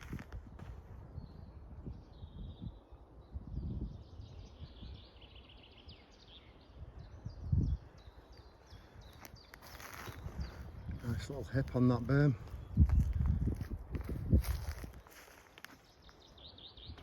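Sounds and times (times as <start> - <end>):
small birds chirping and trilling: 1.1 - 17.0.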